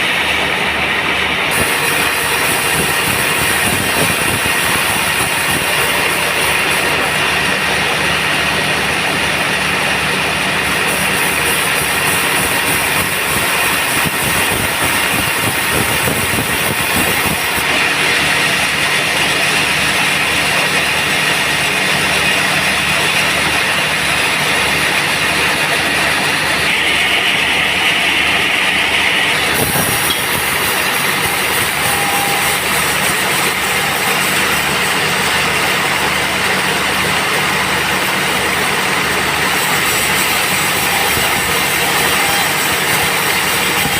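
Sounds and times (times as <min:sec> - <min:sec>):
band saw sawing wood: 0:00.0 - 0:43.9.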